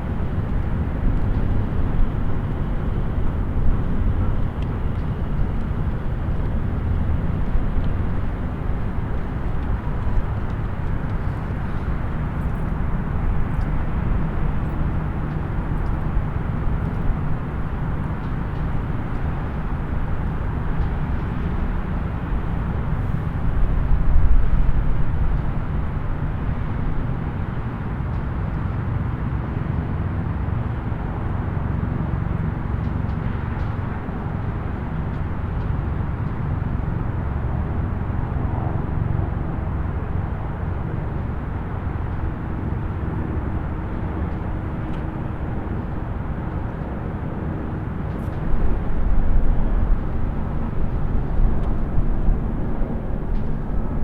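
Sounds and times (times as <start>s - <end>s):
distant highway traffic: 0.0s - 54.0s.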